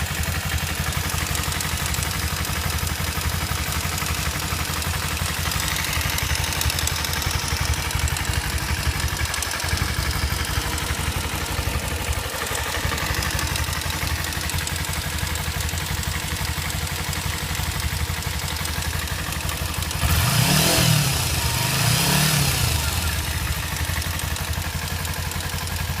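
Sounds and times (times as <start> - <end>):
engine ticking noise: 0.0 - 26.0
motorcycle engine idling: 0.0 - 26.0
motorcycle engine revving: 0.0 - 26.0.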